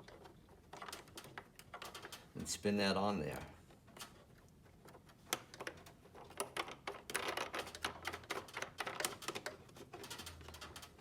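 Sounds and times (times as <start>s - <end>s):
plastic nut clicking and rattling: 0.0s - 2.3s, 3.9s - 11.0s.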